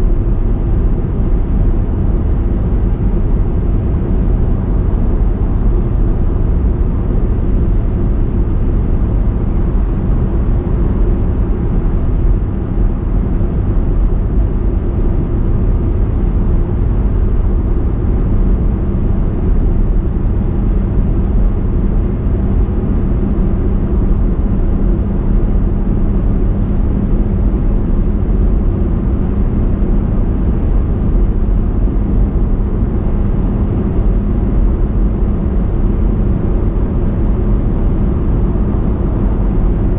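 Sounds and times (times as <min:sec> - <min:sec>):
car tyres and engine rumble: 0:00.0 - 0:39.9
faint steady hum: 0:00.0 - 0:39.9.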